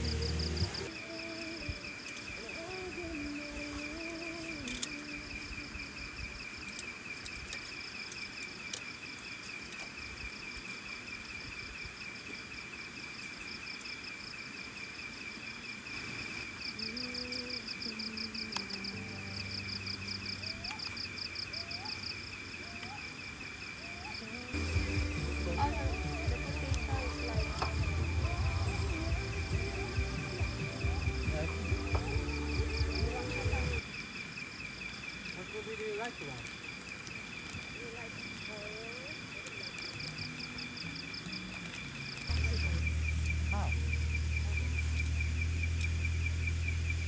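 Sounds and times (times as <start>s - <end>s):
higher insect trill: 0.0s - 47.0s
insects trilling: 0.0s - 47.0s.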